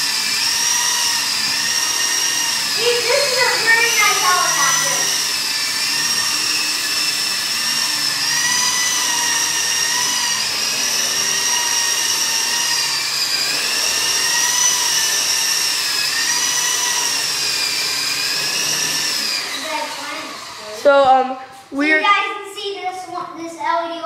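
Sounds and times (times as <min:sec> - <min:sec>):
toy helicopter motor whine: 0:00.0 - 0:24.0.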